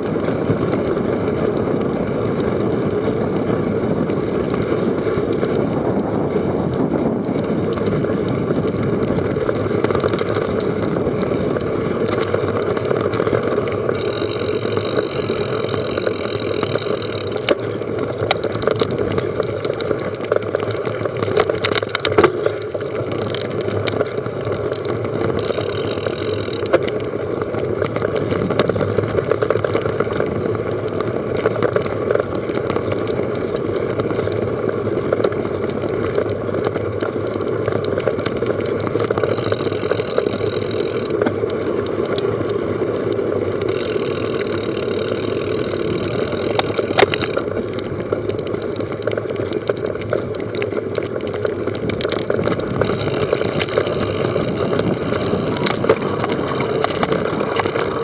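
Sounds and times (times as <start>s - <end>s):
bike rattles and knocks: 0.0s - 58.0s
wind and tyre noise: 0.0s - 58.0s.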